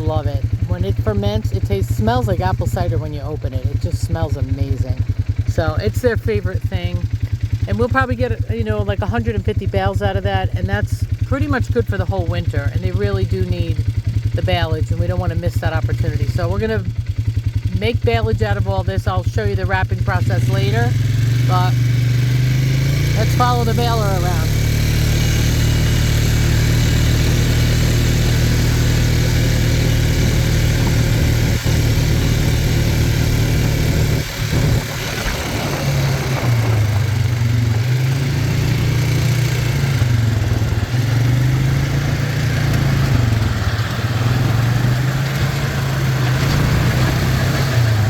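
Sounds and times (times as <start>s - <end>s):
baler mechanical noise: 0.0s - 48.0s
tractor engine running: 0.0s - 48.0s.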